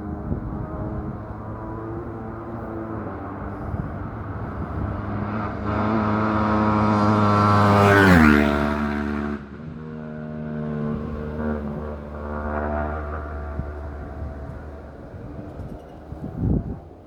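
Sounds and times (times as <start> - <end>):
distant engine: 0.0 - 17.0
racing motorcycle passing at speed: 0.0 - 17.0.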